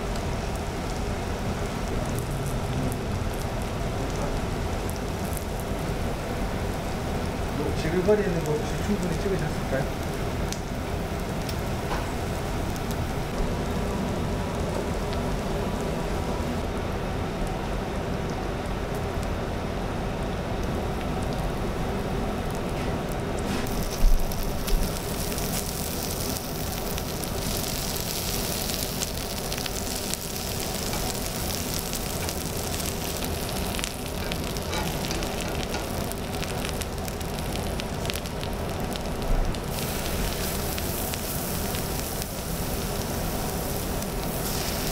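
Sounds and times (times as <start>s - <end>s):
meat sizzling on a griddle: 0.0s - 16.6s, 23.5s - 44.9s.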